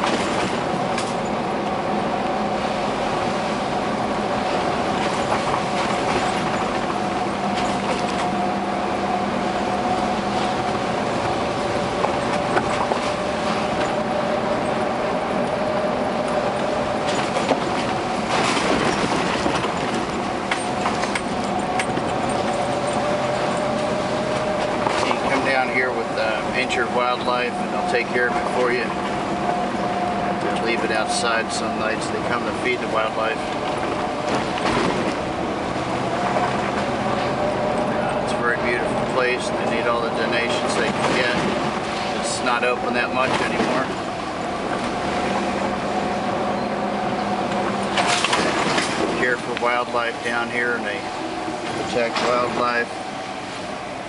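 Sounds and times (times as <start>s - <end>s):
vehicle driving slowly: 0.0s - 54.0s.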